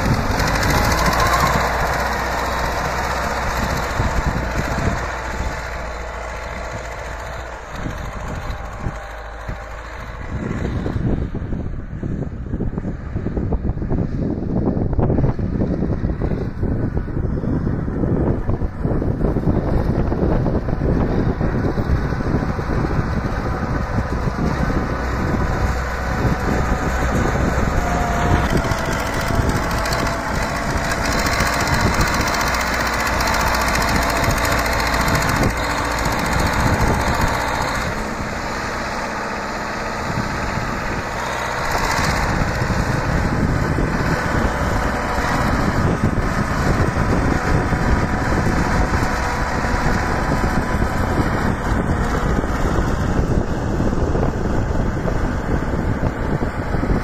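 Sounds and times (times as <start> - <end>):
diesel tractor engine running hard: 0.0 - 57.0.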